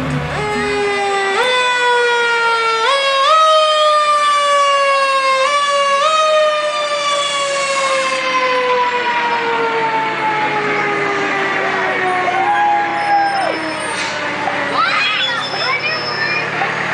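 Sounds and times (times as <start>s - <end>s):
fire truck siren: 0.0s - 16.9s.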